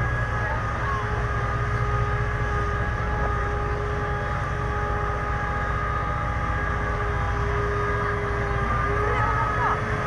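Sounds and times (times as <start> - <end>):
tractor engine rumble with whine: 0.0 - 10.0.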